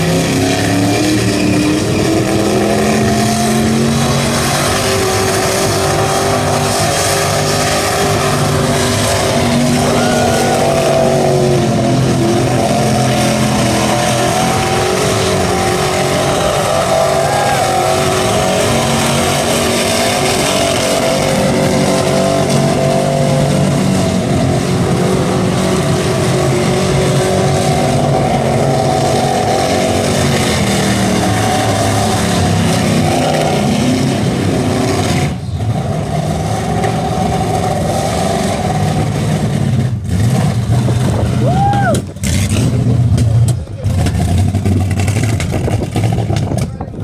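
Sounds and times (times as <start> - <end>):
engine revving rough: 0.0 - 47.0.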